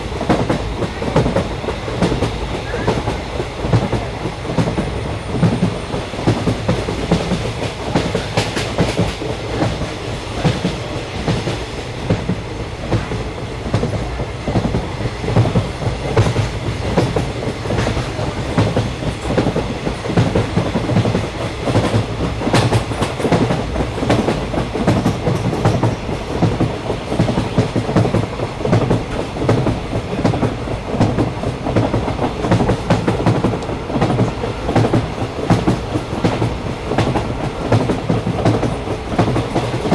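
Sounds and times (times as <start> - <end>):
train rumbling on track: 0.0 - 39.9
wheels clacking over rails: 0.2 - 39.9.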